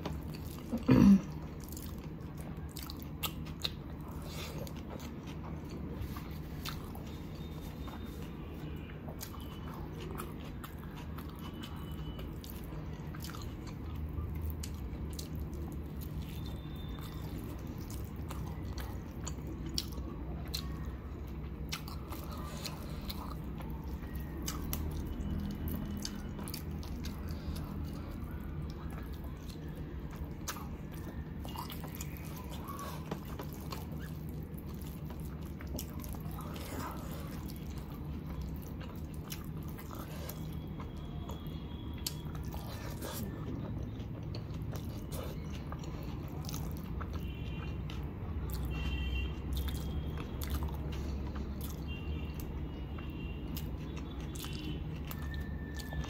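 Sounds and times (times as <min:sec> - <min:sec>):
steady low hum: 0:00.0 - 0:48.6
wet chewing and mouth clicks: 0:00.0 - 0:56.0.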